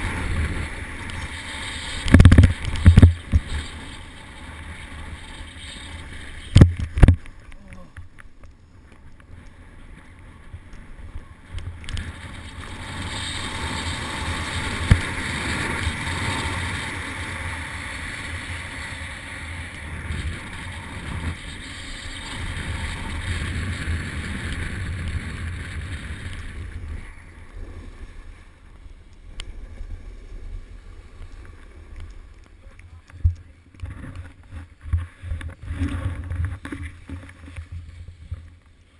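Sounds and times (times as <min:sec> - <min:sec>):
snowboard sliding over snow: 0:00.0 - 0:07.5, 0:08.6 - 0:38.9
wind rushing over camera: 0:00.0 - 0:38.9.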